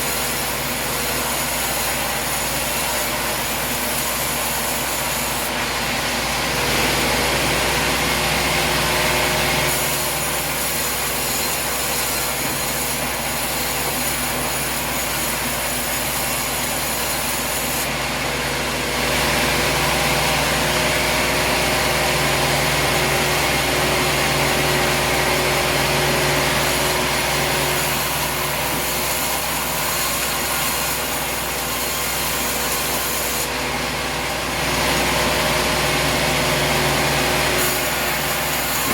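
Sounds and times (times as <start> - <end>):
sawmill blade cutting log: 0.0 - 38.9.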